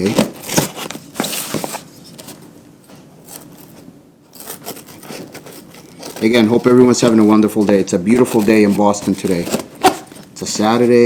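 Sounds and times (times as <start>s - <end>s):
package scraping and rustling: 0.0s - 2.5s, 3.2s - 11.0s.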